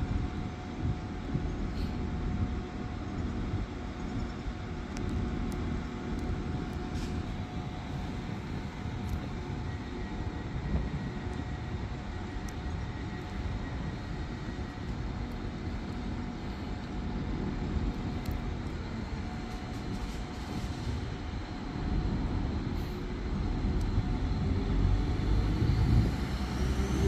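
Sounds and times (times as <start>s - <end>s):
faint engine hum: 0.0s - 27.0s
train rumbling: 0.0s - 27.0s.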